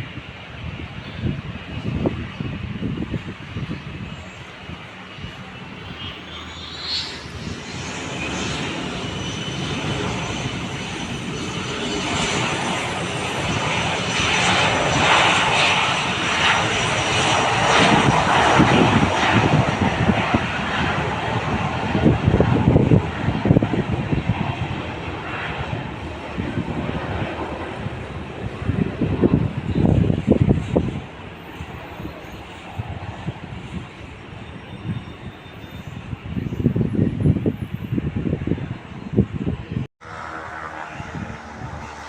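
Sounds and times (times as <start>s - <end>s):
plane engines passing: 0.0s - 42.0s.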